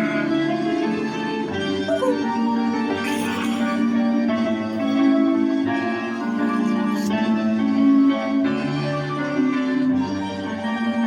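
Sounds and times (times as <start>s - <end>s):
instrumental music of held notes: 0.0s - 9.5s.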